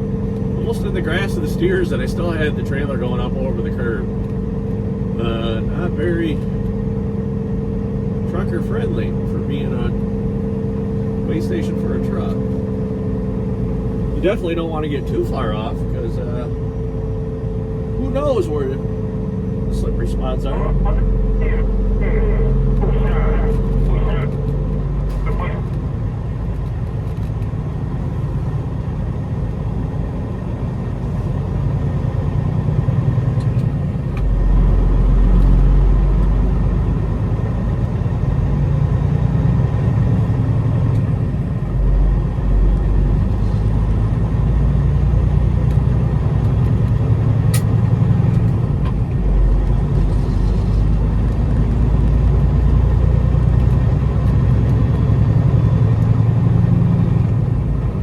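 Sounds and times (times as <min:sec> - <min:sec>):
truck diesel engine rumble: 0:00.0 - 0:58.0.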